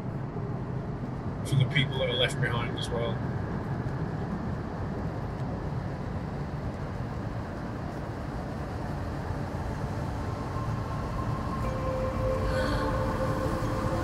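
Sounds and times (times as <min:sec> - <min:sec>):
faint steady tones: 0:00.0 - 0:14.0
vehicle rumble: 0:00.0 - 0:14.0.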